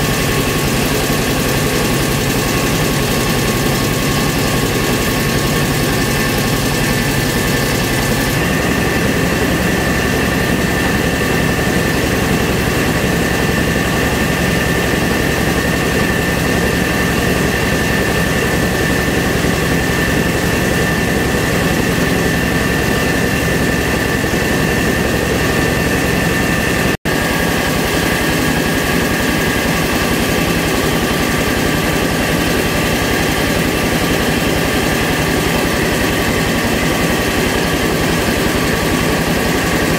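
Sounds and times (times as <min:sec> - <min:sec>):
rice mill machine din: 0:00.0 - 0:39.9
steady machine whine: 0:00.0 - 0:39.9.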